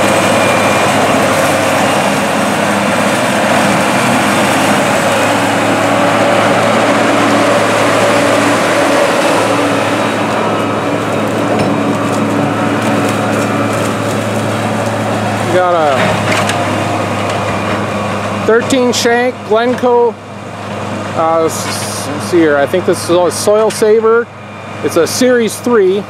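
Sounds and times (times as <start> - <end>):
tractor diesel engine droning: 0.0 - 26.0.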